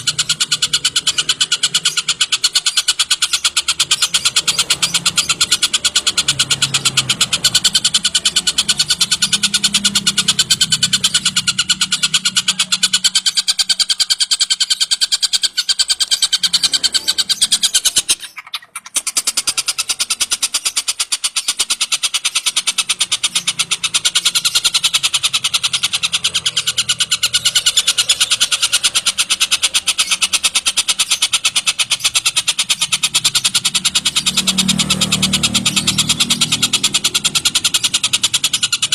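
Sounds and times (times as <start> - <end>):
kingfisher chattering call: 0.0 - 38.9.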